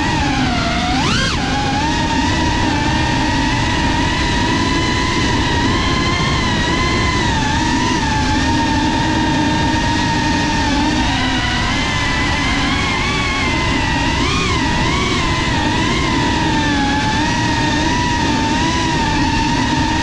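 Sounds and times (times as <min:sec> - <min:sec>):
drone motors whining: 0:00.0 - 0:20.0
rushing prop wash and wind: 0:00.0 - 0:20.0.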